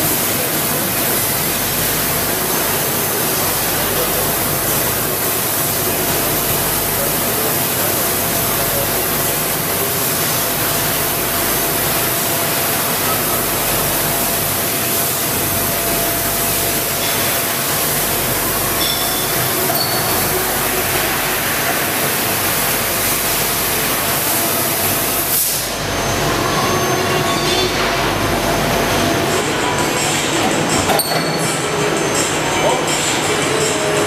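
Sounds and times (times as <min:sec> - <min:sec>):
laser cutter hiss: 0:00.0 - 0:30.7.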